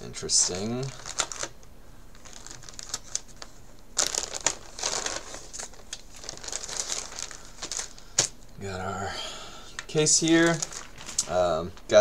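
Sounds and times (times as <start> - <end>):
plastic bag crinkling: 0.3 - 8.4, 9.8 - 12.0.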